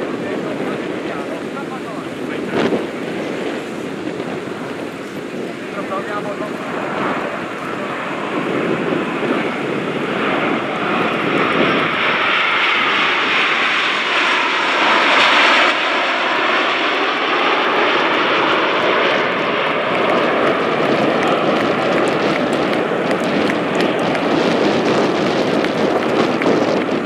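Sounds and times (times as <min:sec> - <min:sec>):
jets flying over: 0:00.0 - 0:27.0.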